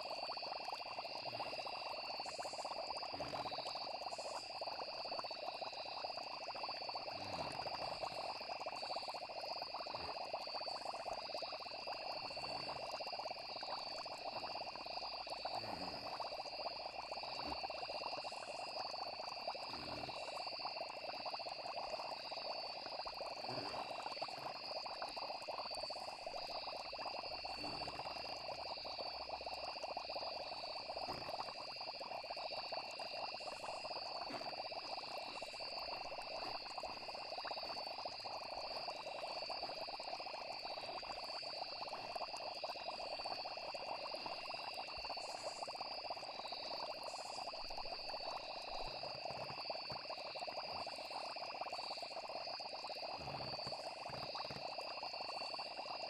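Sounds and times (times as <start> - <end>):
crickets chirping: 0.0 - 56.0
frogs croaking: 0.0 - 56.0.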